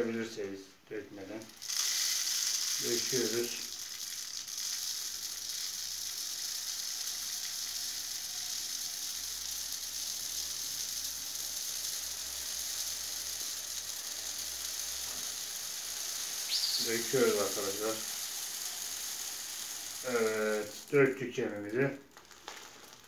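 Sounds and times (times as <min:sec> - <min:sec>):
bird seed pouring into bottle: 0:01.4 - 0:23.0.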